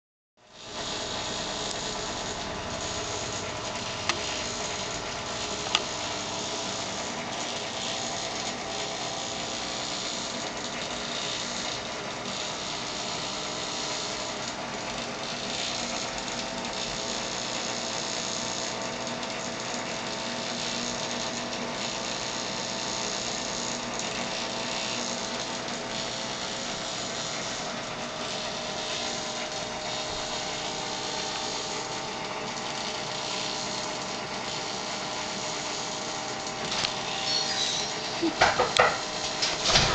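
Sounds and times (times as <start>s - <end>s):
small motor whirring: 0.5s - 39.9s.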